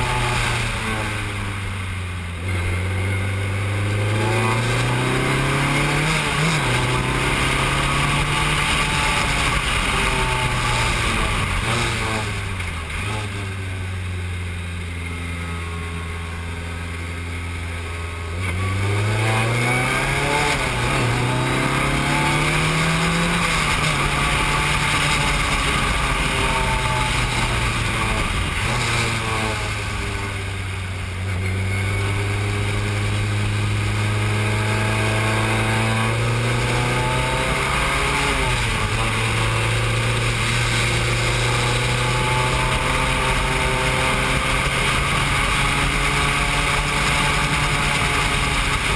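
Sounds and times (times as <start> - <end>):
race car engine accelerating: 2.4 - 13.5, 18.2 - 48.9.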